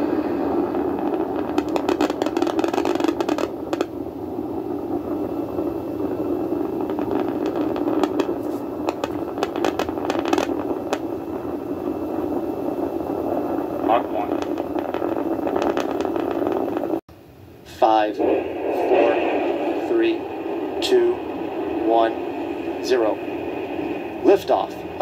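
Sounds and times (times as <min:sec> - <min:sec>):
rocket engines roaring: 0:00.0 - 0:17.0, 0:17.6 - 0:25.0.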